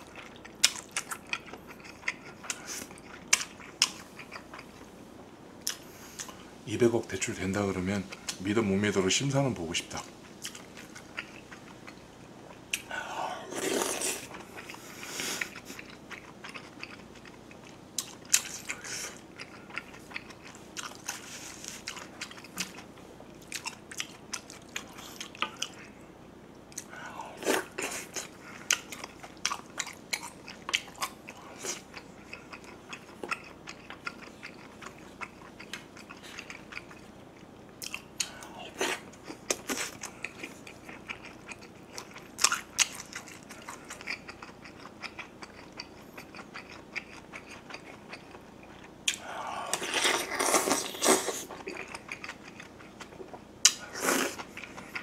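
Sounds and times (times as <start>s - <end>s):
chewing: 0.0s - 4.9s, 10.0s - 26.0s, 26.7s - 55.0s.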